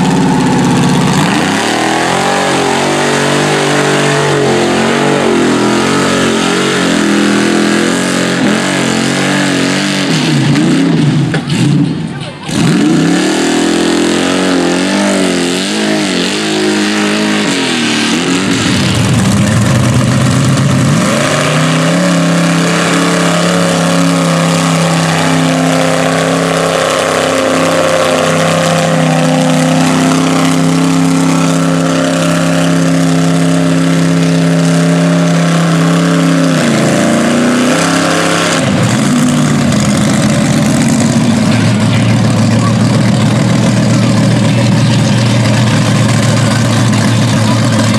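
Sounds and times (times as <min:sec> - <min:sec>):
truck engines revving high: 0:00.0 - 0:47.9.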